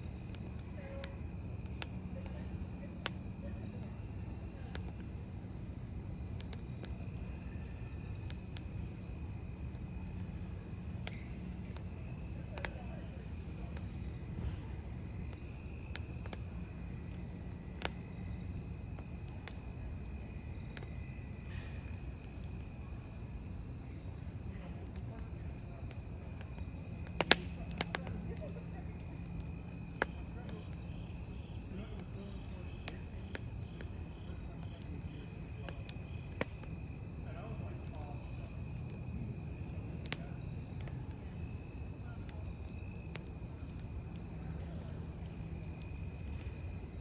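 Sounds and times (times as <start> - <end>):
crickets trilling: 0.0 - 47.0
wood fire crackling: 0.0 - 47.0.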